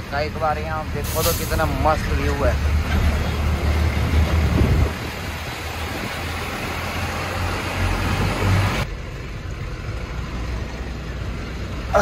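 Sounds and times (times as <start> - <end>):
road noise: 0.0 - 12.0
truck engine rumble: 0.0 - 12.0.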